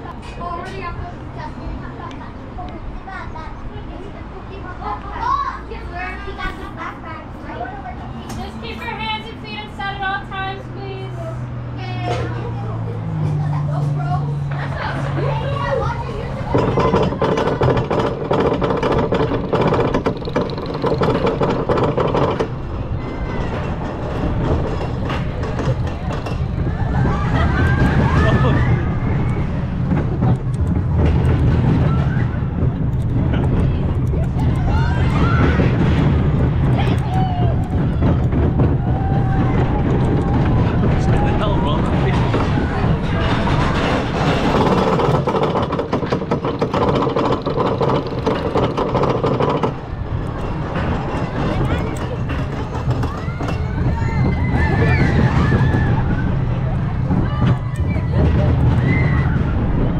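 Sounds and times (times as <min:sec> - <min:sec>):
coaster wheels rumbling on track: 0:00.0 - 0:59.9
roller coaster chain clattering: 0:00.0 - 0:59.9
steady mechanical hum: 0:00.0 - 0:59.9.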